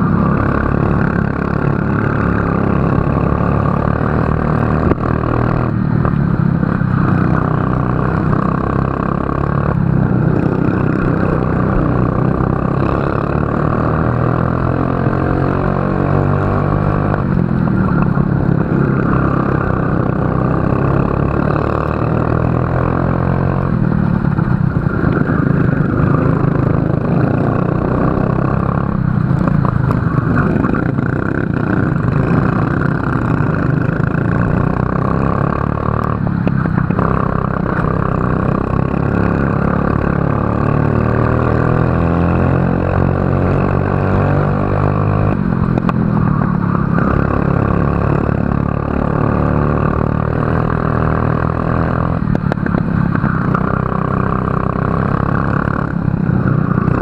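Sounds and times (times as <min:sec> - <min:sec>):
kart engine accelerating: 0:00.0 - 0:57.0.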